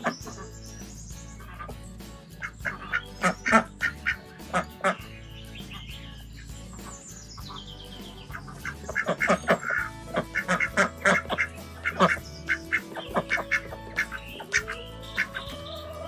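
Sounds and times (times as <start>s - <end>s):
background music: 0.0s - 16.0s
poultry calls: 0.0s - 16.0s.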